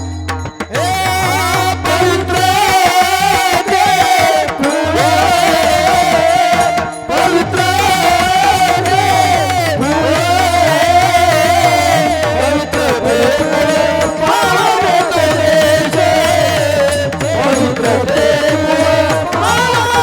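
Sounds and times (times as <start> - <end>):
person singing devotional song: 0.0 - 20.0
tabla drum: 0.0 - 20.0.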